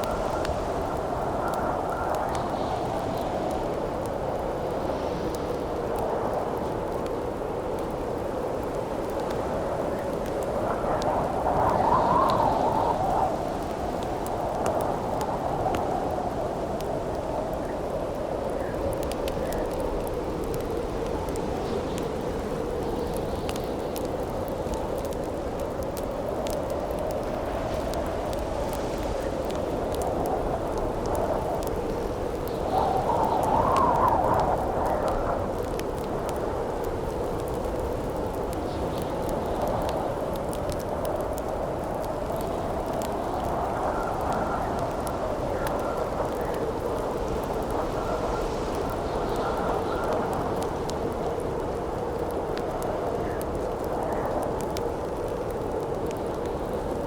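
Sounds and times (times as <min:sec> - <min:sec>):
campfire crackling and popping: 0:00.0 - 0:57.0
howling wind: 0:00.0 - 0:57.0.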